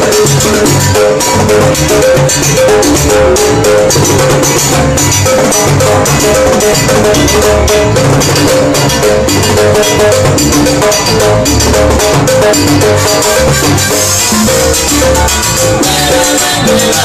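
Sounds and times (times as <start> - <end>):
latin dance band playing: 0.0 - 17.0
timbales and congas: 0.0 - 17.0.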